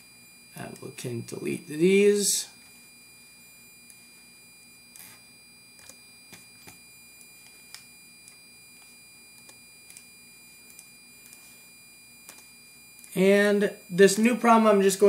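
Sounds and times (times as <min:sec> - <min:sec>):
high electronic whine: 0:00.0 - 0:15.0.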